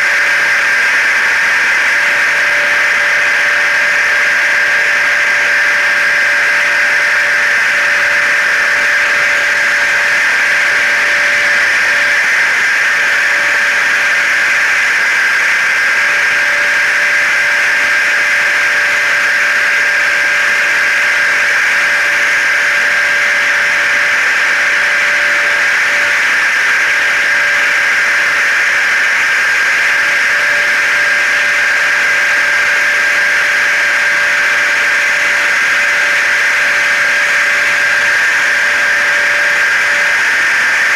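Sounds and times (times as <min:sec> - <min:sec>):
high whine: 0:00.0 - 0:40.9.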